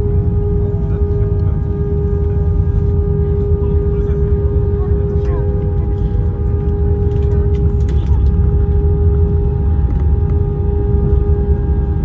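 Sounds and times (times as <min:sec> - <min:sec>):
deep cabin rumble: 0:00.0 - 0:12.0
jet engine whine: 0:00.0 - 0:12.0.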